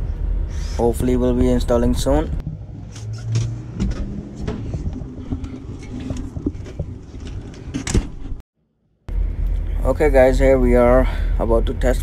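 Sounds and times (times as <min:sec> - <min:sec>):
low background hum: 0:00.0 - 0:08.4, 0:09.1 - 0:12.0.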